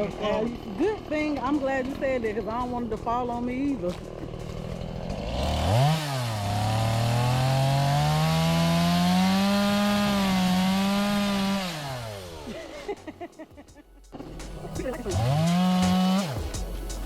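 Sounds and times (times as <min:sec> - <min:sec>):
two-stroke engine revving: 0:00.0 - 0:13.1, 0:14.1 - 0:16.6.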